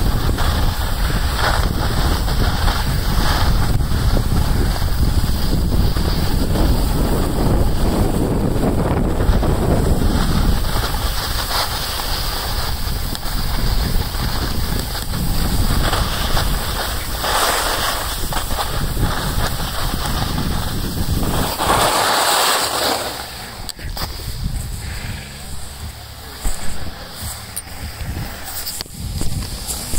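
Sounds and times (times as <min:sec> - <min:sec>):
ski edges scraping on snow: 0:00.0 - 0:29.9
wind buffeting microphone: 0:00.0 - 0:29.9.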